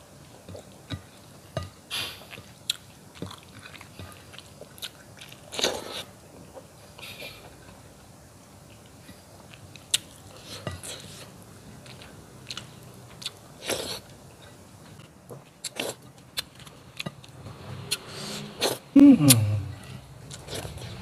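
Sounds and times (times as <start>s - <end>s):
man chewing food: 2.2s - 7.8s, 8.7s - 21.0s.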